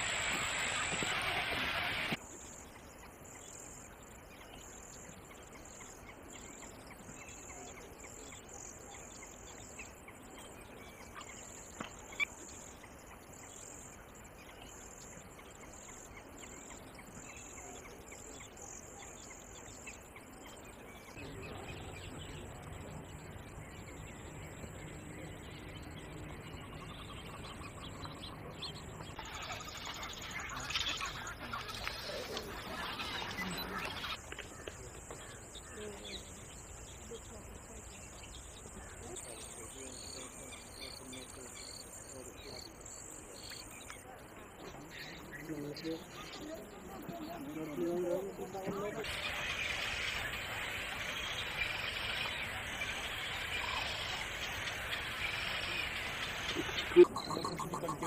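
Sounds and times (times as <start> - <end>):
faint bird chirps: 0.0 - 58.0.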